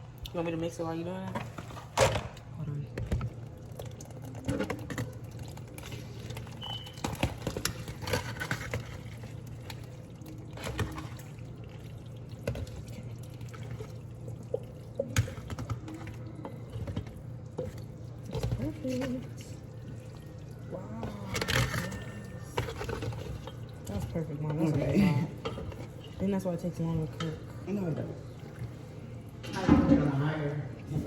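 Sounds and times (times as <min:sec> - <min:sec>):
wet sloshing of sauce: 0:03.0 - 0:31.0.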